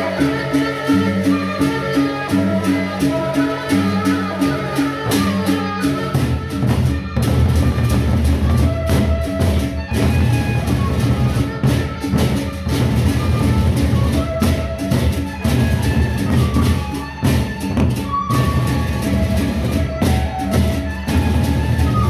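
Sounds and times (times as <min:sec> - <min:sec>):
big barrel drums: 0:00.0 - 0:22.0.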